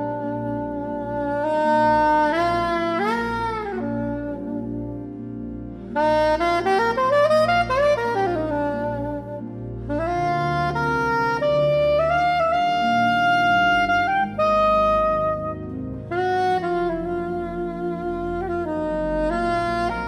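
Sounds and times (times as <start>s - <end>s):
pipe organ chords: 0.0s - 20.0s
saxophone slow melody: 0.0s - 20.0s.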